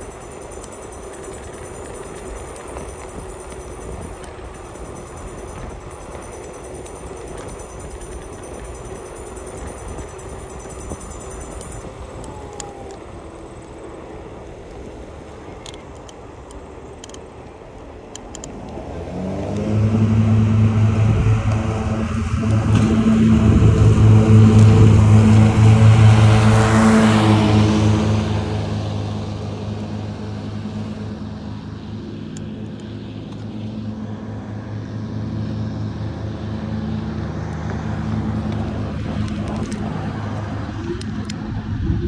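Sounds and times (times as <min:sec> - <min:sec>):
passing traffic road noise: 0:00.0 - 0:42.0
vehicle engine humming: 0:00.0 - 0:42.0.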